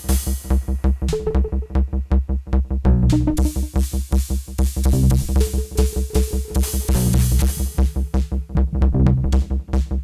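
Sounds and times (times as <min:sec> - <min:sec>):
electronic music with low beat: 0:00.0 - 0:10.0.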